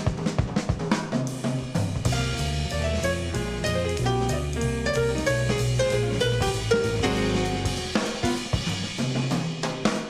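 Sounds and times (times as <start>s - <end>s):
big band jazz record: 0.0s - 10.0s.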